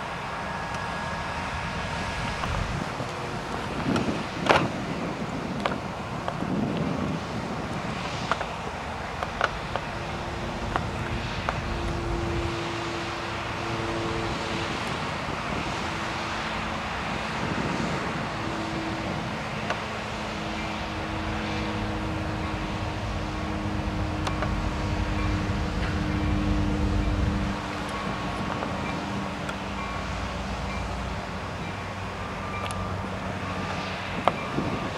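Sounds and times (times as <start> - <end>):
diesel locomotives rumbling: 0.0 - 34.9
held engine tones: 0.0 - 34.9
train rolling by: 0.0 - 34.9.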